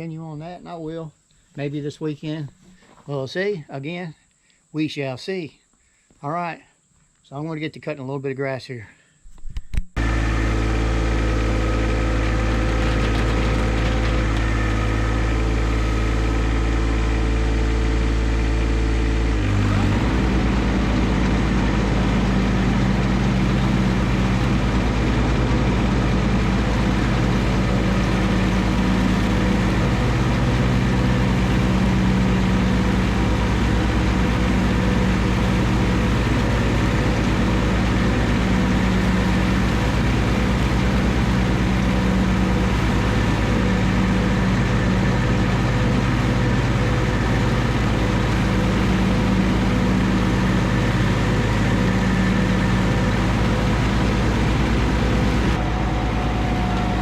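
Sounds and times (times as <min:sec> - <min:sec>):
tractor diesel engine mowing: 0:10.0 - 0:57.0.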